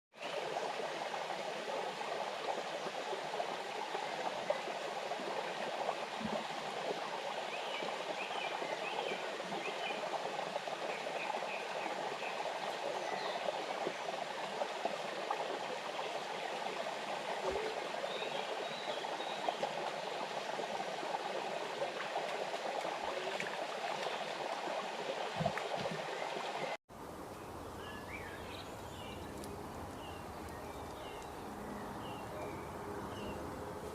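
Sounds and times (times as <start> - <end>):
running water: 0.1 - 33.9.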